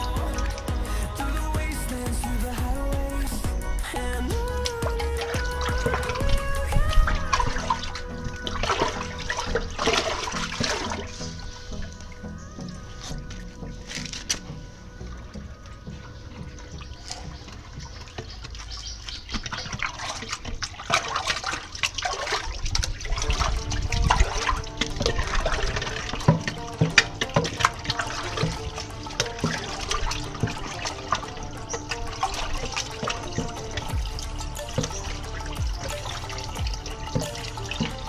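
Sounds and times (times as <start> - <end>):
wastewater gushing and splashing: 3.7 - 38.0.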